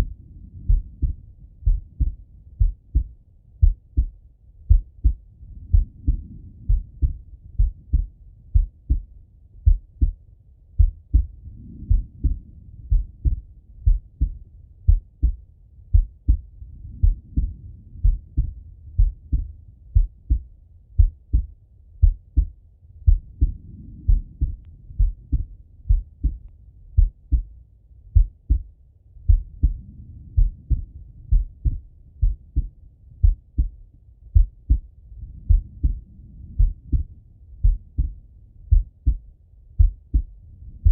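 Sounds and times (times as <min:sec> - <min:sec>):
heartbeat through stethoscope: 0:00.0 - 0:40.9.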